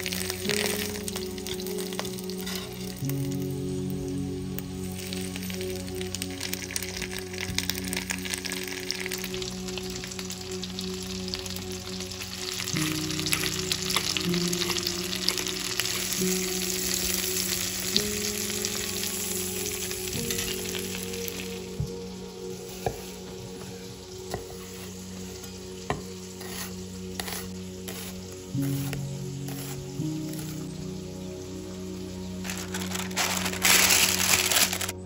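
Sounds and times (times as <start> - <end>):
food sizzling in frying pan: 0.0 - 35.0.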